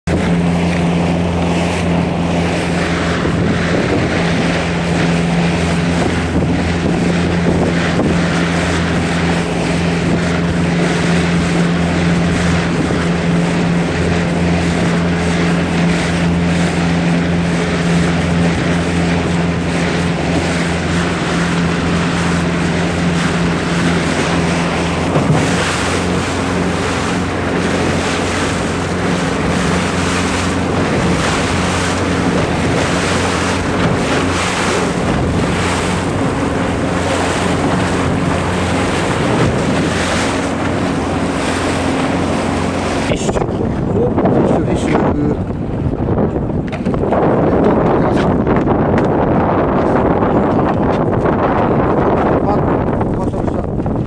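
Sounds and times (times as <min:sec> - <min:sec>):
boat engine humming: 0:00.0 - 0:54.0
water rushing past hull: 0:00.0 - 0:54.0
wind buffeting microphone: 0:00.0 - 0:54.0.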